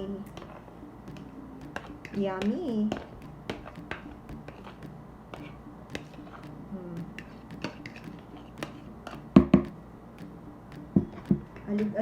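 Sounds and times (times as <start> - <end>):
utensil tapping plastic container: 1.1 - 12.0.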